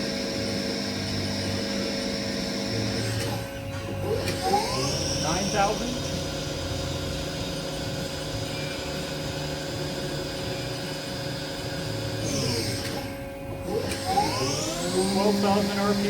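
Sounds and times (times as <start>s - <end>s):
machine spindle whine: 0.0s - 16.0s.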